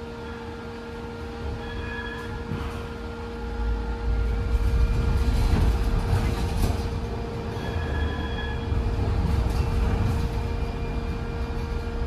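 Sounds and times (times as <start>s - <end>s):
high-pitched whine: 0.0s - 5.4s, 7.3s - 12.0s
constant hum: 0.0s - 12.0s
wheels rumbling on rails: 0.0s - 12.0s.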